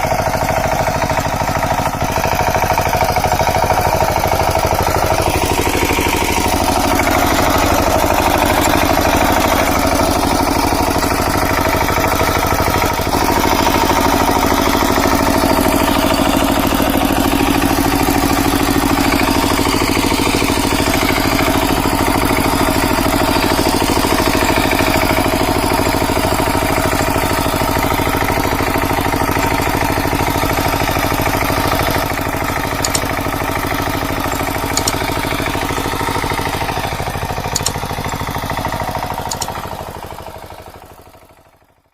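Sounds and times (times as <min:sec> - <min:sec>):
diesel engine chugging: 0:00.0 - 0:41.9.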